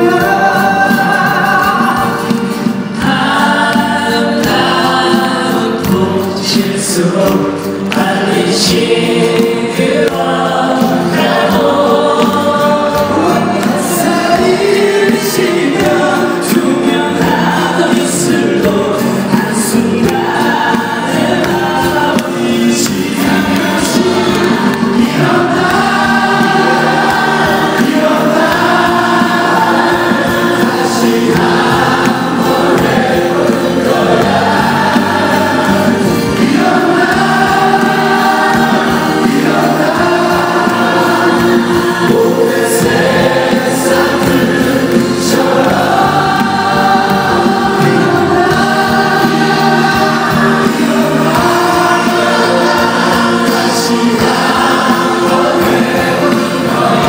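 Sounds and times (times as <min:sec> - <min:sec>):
backing band: 0:00.0 - 0:57.0
male group singing pop song: 0:00.0 - 0:57.0.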